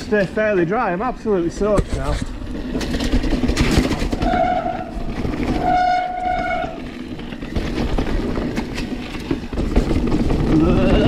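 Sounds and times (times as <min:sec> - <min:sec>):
tyres rumbling on trail: 0:00.0 - 0:11.0.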